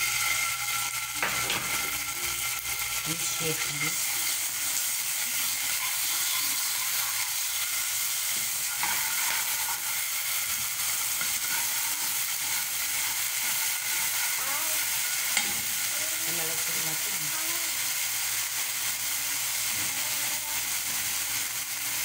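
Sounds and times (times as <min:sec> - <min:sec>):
garlic sizzling in a frying pan: 0:00.0 - 0:22.0
spatula stirring in a pan: 0:00.0 - 0:22.0.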